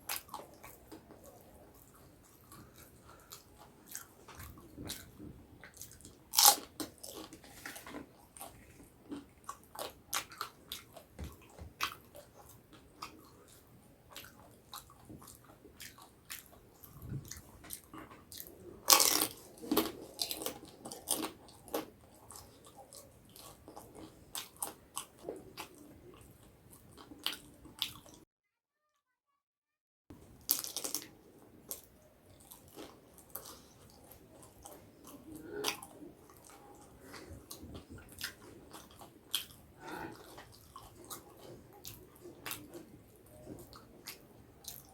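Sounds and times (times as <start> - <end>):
chewing: 0.0 - 28.2, 30.4 - 44.9.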